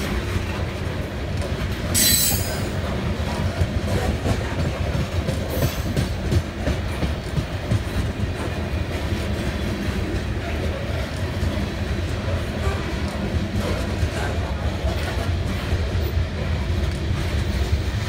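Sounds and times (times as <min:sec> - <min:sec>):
train cars rumbling past: 0:00.0 - 0:18.0
wheels clacking over rail joints: 0:00.0 - 0:18.0.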